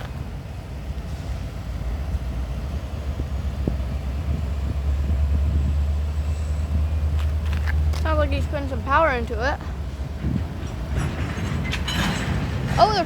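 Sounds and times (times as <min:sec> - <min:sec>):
locomotive engines rumbling: 0:00.0 - 0:13.0.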